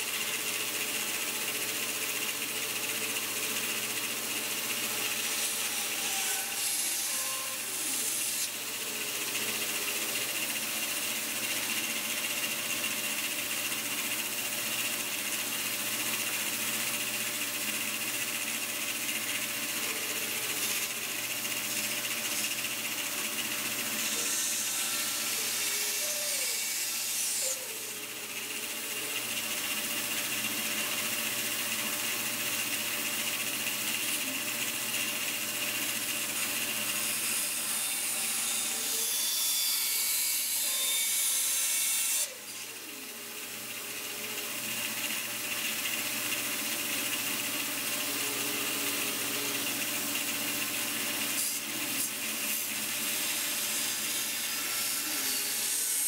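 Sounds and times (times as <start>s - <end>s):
bandsaw cutting wood: 0.0s - 56.0s.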